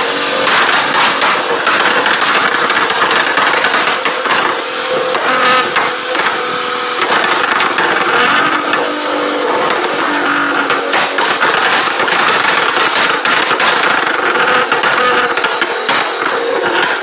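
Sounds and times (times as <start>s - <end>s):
car engine: 0.0s - 17.0s
exhaust crackling and popping: 0.0s - 17.0s.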